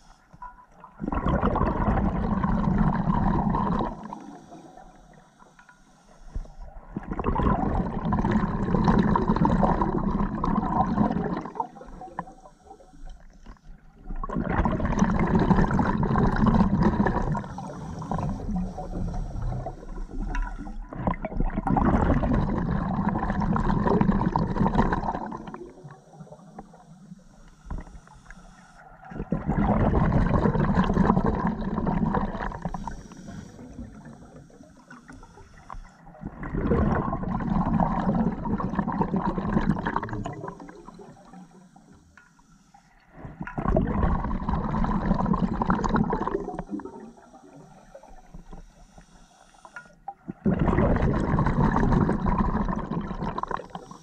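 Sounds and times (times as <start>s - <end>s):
underwater exhaled bubbles rushing: 0.8s - 5.2s, 6.4s - 12.8s, 13.4s - 27.9s, 29.0s - 41.9s, 43.1s - 48.7s, 50.1s - 54.0s.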